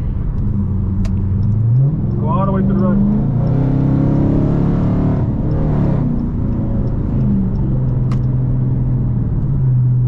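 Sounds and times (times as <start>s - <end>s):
car engine droning at speed: 0.0s - 10.0s.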